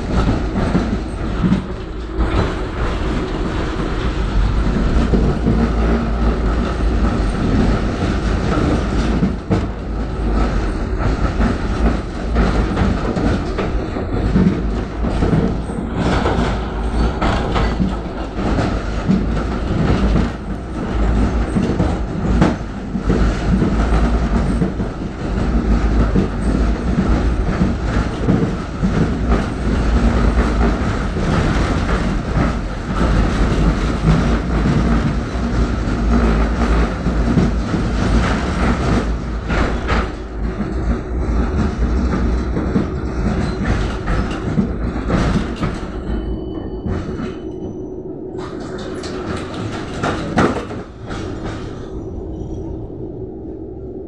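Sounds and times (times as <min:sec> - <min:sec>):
tram running gear rumble: 0:00.0 - 0:54.0.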